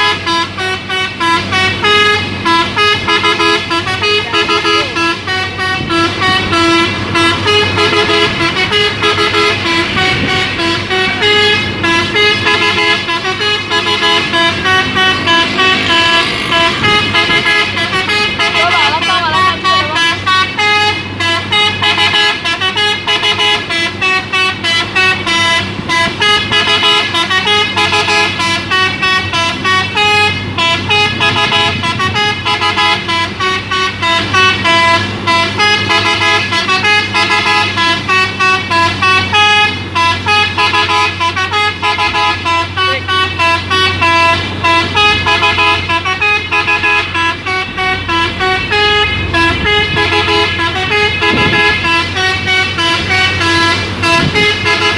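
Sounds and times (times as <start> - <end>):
diesel engine hum: 0.0 - 54.9
melody horn multi-tone tune: 0.0 - 54.9.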